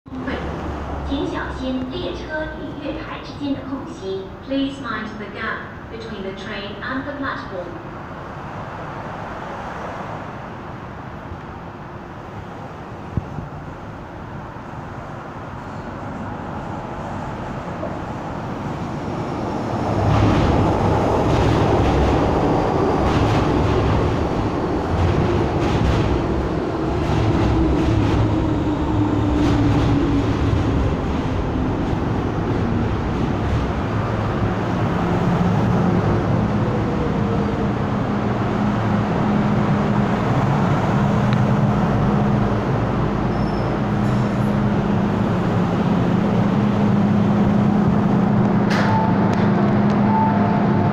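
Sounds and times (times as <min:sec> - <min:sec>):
steady train hum: 0:00.1 - 0:50.9
train wheels rumbling on rails: 0:10.1 - 0:50.9.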